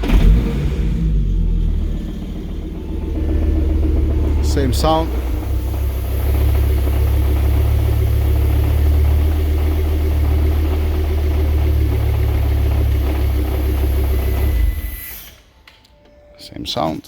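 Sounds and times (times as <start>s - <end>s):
engine idling: 0.0s - 15.4s.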